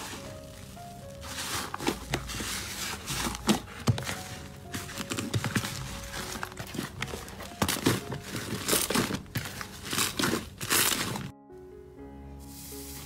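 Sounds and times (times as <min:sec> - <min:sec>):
slime crackling: 0:00.0 - 0:11.3.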